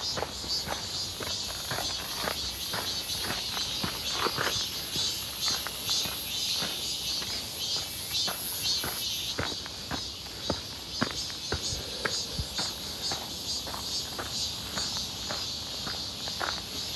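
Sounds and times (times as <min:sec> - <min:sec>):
cicadas singing: 0:00.0 - 0:16.9
footsteps on dirt and rock: 0:00.0 - 0:16.9.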